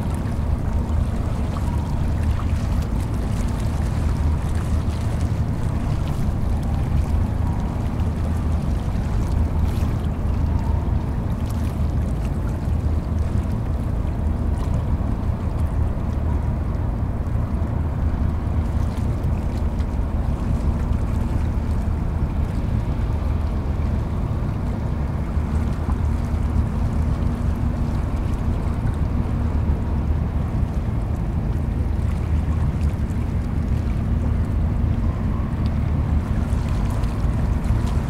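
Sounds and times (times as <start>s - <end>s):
boat engines droning: 0.0s - 38.0s.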